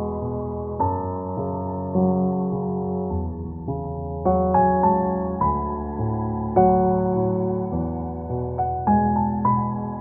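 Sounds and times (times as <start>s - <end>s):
slow gentle piano music: 0.0s - 10.0s.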